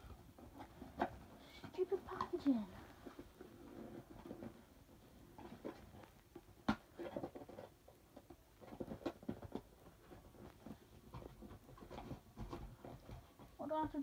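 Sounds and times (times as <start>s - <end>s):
cardboard rustling and scraping: 0.0s - 14.0s.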